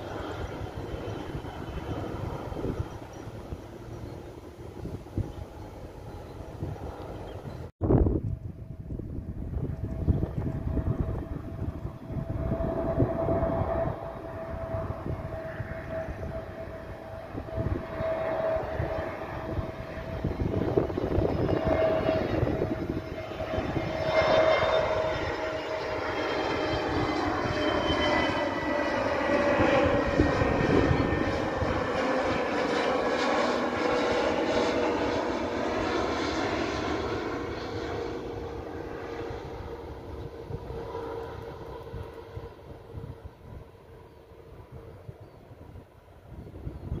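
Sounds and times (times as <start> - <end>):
airliner engines whining: 0.0 - 47.0.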